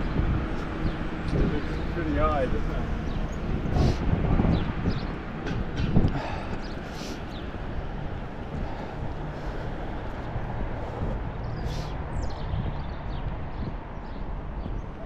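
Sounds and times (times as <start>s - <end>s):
low engine hum: 0.0s - 15.0s
street traffic noise: 0.0s - 15.0s.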